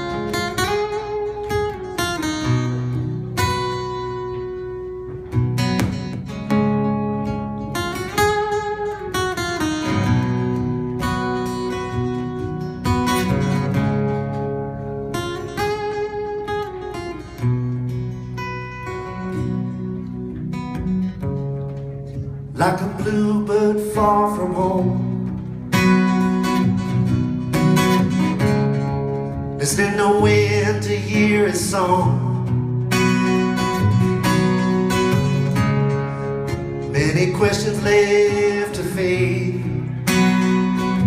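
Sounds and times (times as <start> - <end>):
strummed acoustic guitar chords: 0.0 - 41.0
wavering lead guitar melody: 0.0 - 41.0.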